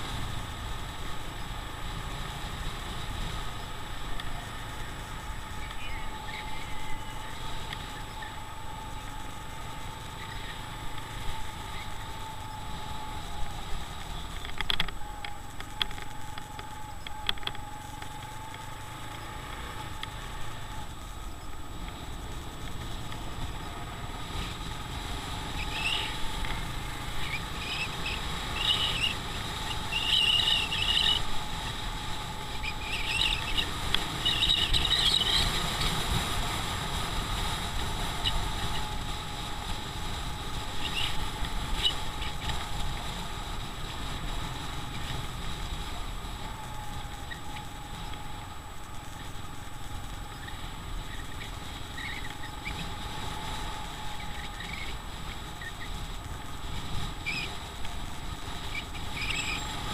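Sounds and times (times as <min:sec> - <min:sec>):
motorcycle engine whine: 0:00.0 - 0:59.9
wind and road noise: 0:00.0 - 0:59.9.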